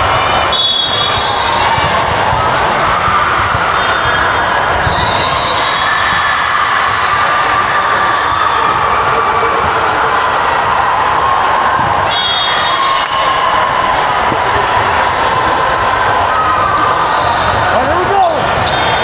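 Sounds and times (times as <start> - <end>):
many voices in a gym: 0.0 - 19.0.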